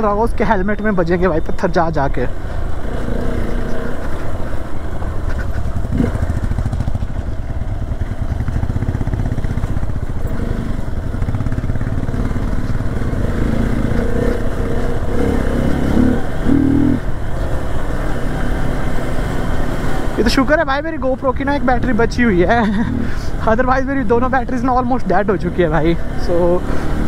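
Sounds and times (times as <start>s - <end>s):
motorcycle engine rumble: 0.0s - 27.0s.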